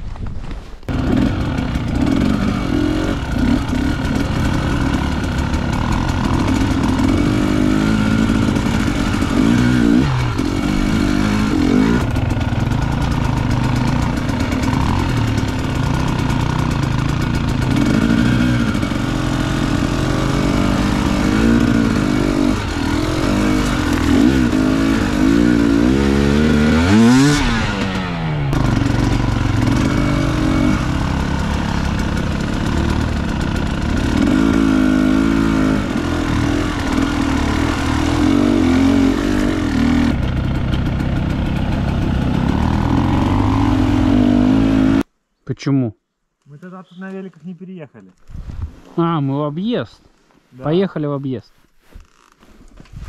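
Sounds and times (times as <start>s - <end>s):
dirt bike engines revving: 0.9s - 45.1s.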